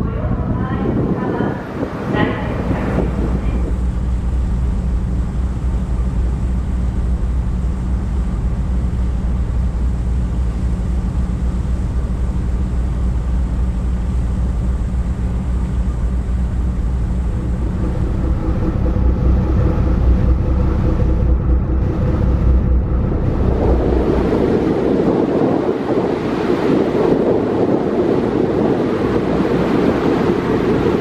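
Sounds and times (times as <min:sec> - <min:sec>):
ferry engines droning: 0:00.0 - 0:31.0
higher steady hums: 0:00.0 - 0:31.0.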